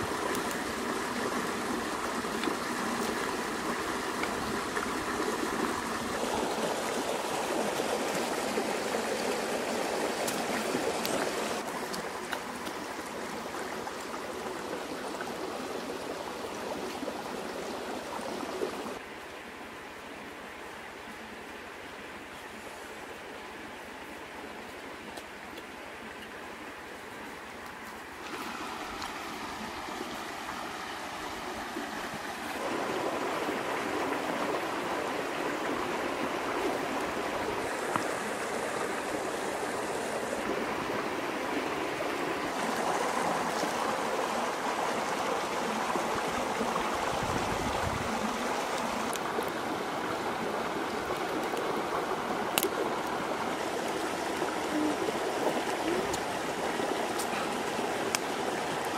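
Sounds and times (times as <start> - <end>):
stream running over stones: 0.0 - 58.9.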